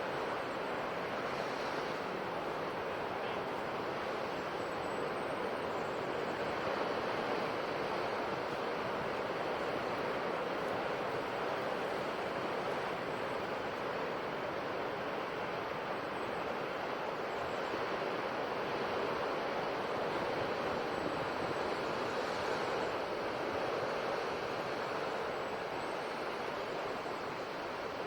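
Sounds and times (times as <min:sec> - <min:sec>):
ocean surf washing on shore: 0:00.0 - 0:28.0.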